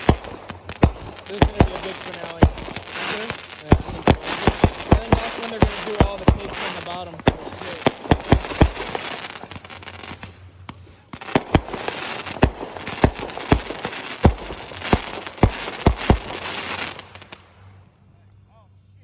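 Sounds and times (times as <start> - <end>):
firework shells booming: 0.0 - 17.4
fireworks crackling: 0.0 - 17.8.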